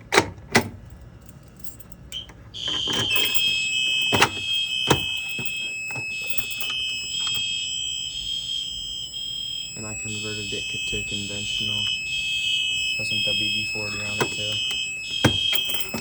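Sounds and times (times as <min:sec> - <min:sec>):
fire alarm horns sounding: 0:00.9 - 0:16.0.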